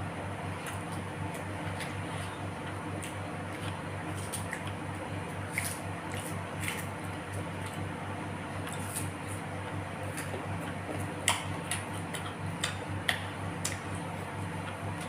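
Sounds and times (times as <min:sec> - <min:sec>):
steady low hum: 0:00.0 - 0:15.0
wet chewing and mouth sounds: 0:00.5 - 0:15.0.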